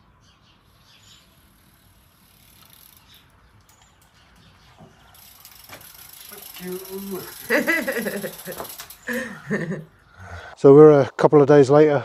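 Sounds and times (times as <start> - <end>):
distant bird chirps: 0.0 - 10.6.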